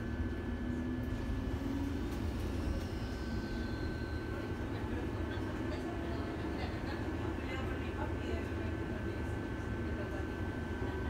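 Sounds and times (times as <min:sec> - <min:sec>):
tram running gear rumble: 0:00.0 - 0:11.0.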